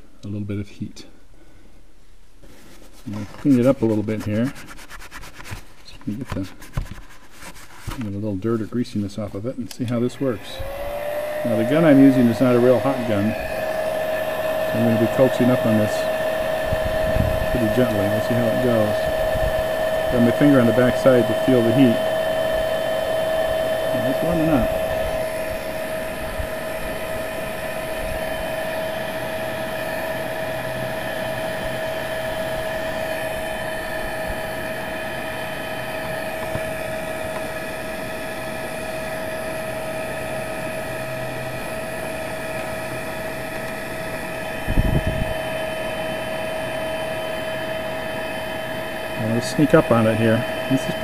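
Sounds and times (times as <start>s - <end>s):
heat gun blowing with whine: 9.9s - 51.0s.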